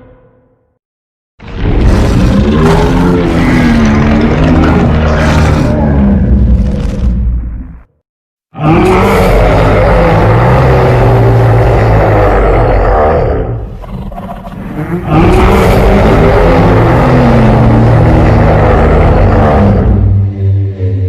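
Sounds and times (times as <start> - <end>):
giant monster roar: 1.4 - 7.8, 8.5 - 21.0.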